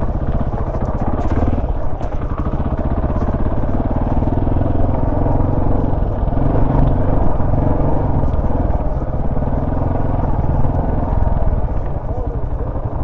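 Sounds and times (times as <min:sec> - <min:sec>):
off-road motorcycle engine revving: 0:00.0 - 0:13.0.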